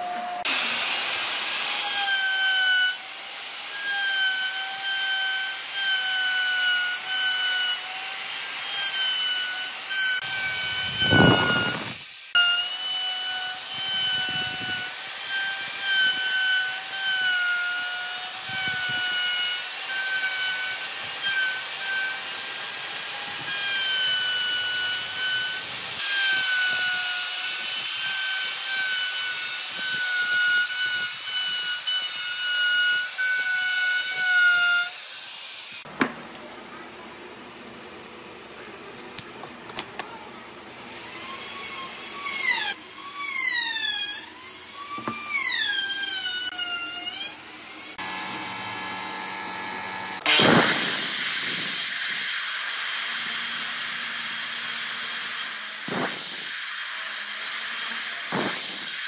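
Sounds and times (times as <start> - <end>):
electric router cutting wood: 0.0 - 35.9, 40.8 - 59.0.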